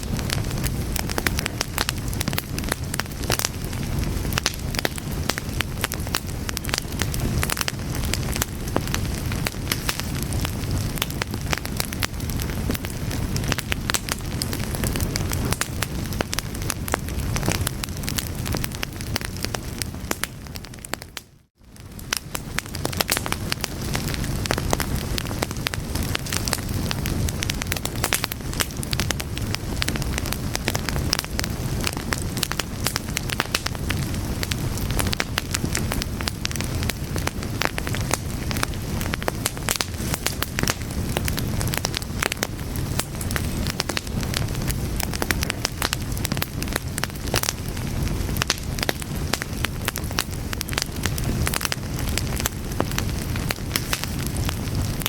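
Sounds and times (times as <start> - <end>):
fire burning: 0.0 - 55.0
fire crackling and popping: 0.0 - 55.0.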